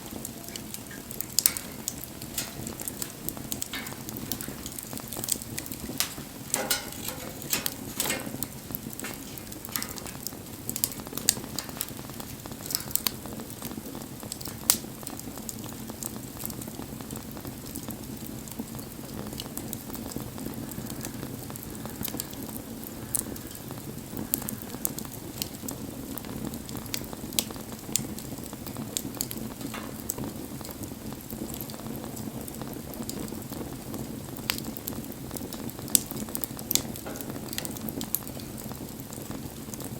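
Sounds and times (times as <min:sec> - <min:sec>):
burning wood crackling and popping: 0:00.0 - 0:39.9
campfire flames hissing: 0:00.0 - 0:39.9.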